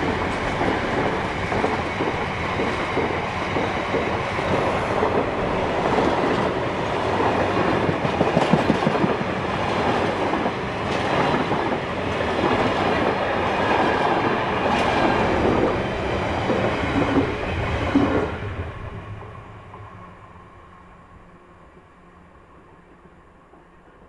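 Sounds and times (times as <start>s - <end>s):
freight train passing: 0.0s - 24.0s.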